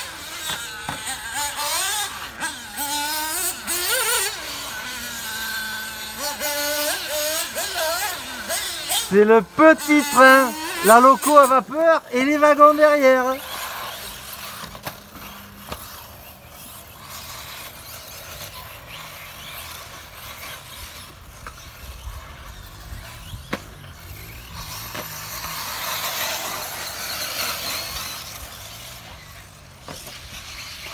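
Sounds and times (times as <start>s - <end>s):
small motor whine: 0.0s - 30.9s
tyres on dirt: 0.0s - 30.9s.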